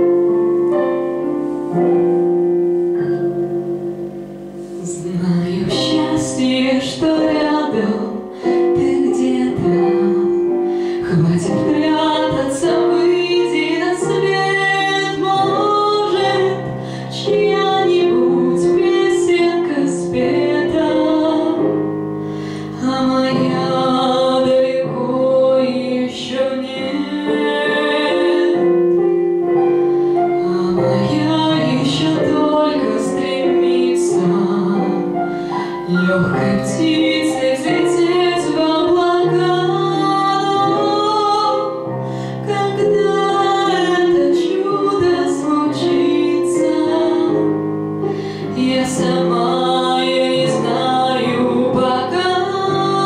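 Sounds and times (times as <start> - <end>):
piano accompaniment: 0.0 - 53.0
woman singing: 4.8 - 21.8, 22.4 - 29.2, 30.3 - 47.6, 48.2 - 53.0.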